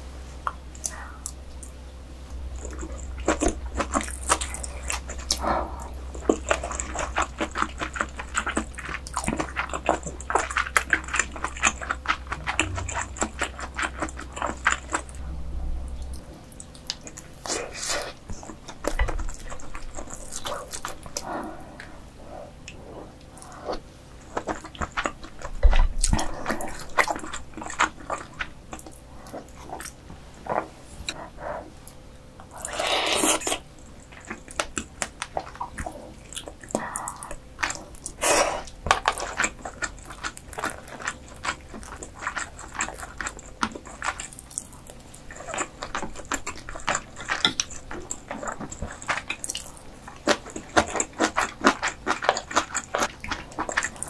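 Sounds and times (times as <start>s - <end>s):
close chewing and mouth clicks: 0.5s - 54.0s.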